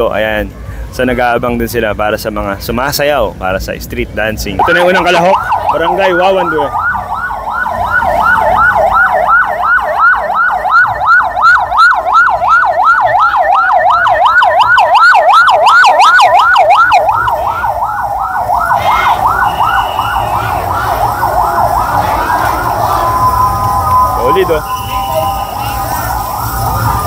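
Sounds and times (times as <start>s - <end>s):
siren rapid yelp: 4.6s - 27.0s
slow gliding siren tone: 4.6s - 27.0s.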